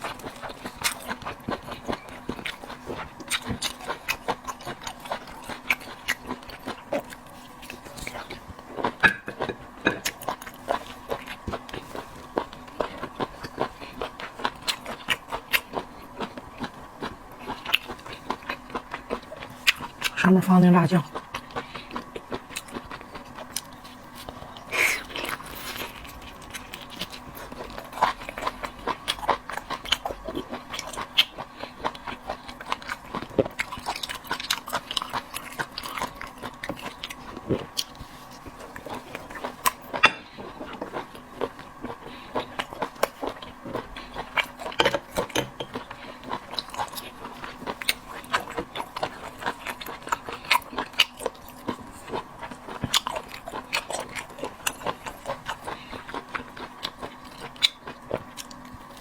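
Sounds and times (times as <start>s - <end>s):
person chewing wetly: 0.0s - 59.0s.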